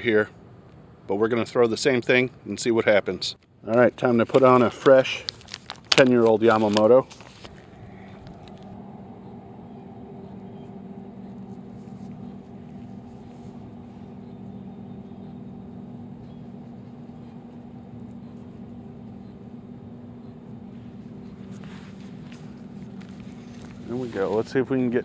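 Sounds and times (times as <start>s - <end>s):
steady engine-like hum: 3.8s - 25.0s.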